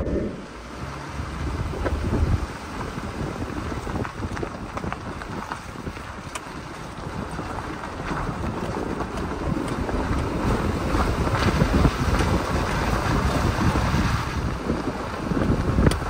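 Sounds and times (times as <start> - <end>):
vehicle rumbling on dirt road: 0.0 - 16.0
wind buffeting microphone: 0.0 - 16.0.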